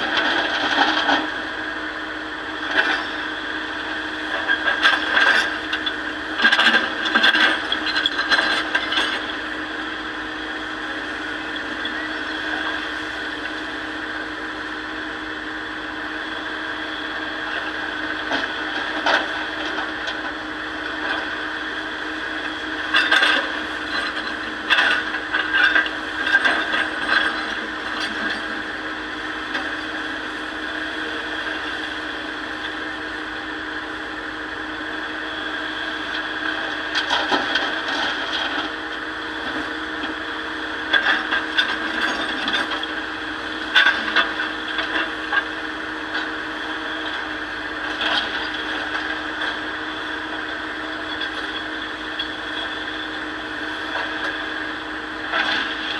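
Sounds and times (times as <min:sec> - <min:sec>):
excavator engine running: 0:00.0 - 0:55.9.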